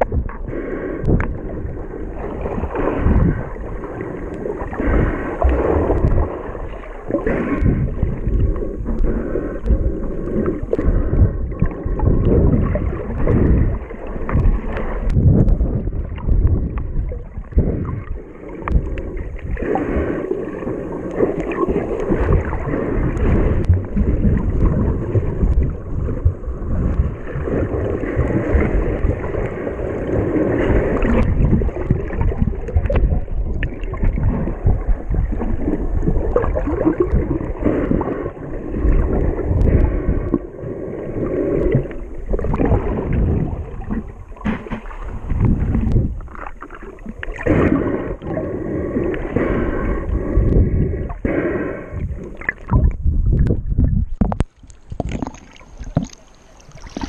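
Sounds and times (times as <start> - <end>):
muffled underwater churning: 0.0 - 57.0.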